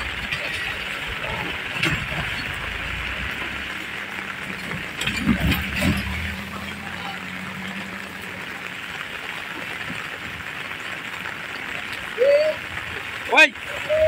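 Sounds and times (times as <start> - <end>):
heavy rain falling: 0.0 - 14.0
truck driving past on wet road: 0.0 - 14.0.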